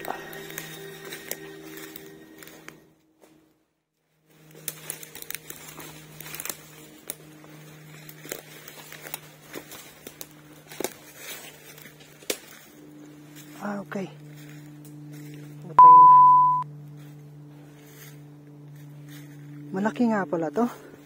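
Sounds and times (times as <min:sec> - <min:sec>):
branches brushing: 0:00.0 - 0:21.0
footsteps crunching dry leaves: 0:00.0 - 0:21.0
low steady hum: 0:00.0 - 0:21.0.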